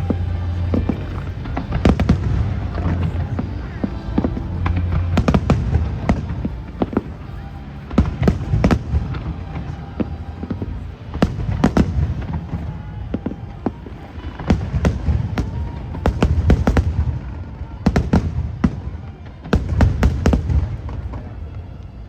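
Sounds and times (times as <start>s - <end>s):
low rumble: 0.0s - 18.9s
fireworks bursting: 0.0s - 22.0s.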